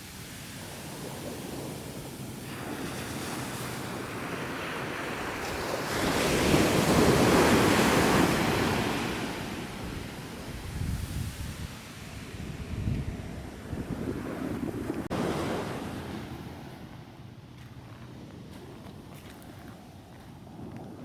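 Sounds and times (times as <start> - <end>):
ocean waves breaking on beach: 0.0 - 21.0
wind buffeting microphone: 0.0 - 21.0.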